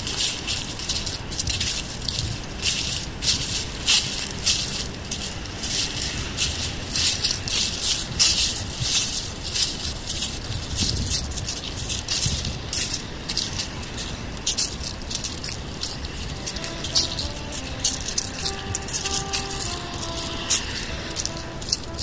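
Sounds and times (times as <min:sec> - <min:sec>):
dry leaves crunching underfoot: 0:00.0 - 0:22.0.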